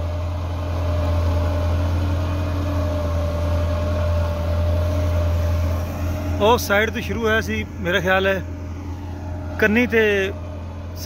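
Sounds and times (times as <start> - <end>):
diesel tractor engine under load: 0.0 - 11.0.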